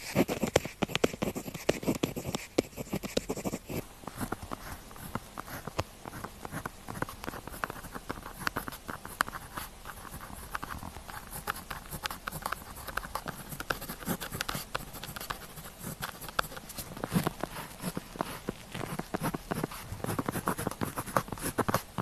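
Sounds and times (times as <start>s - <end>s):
pen scratching on paper: 0.0s - 22.0s.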